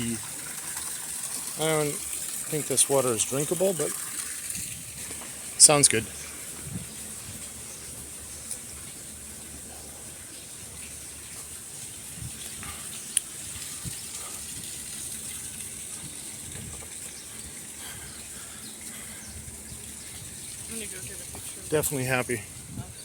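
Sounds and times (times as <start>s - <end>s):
water running in water feature: 0.0s - 23.0s.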